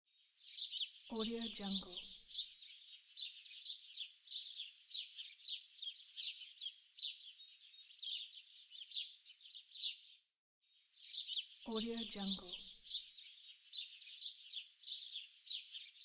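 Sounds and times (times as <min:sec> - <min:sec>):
small songbirds chirping: 0:00.1 - 0:16.0.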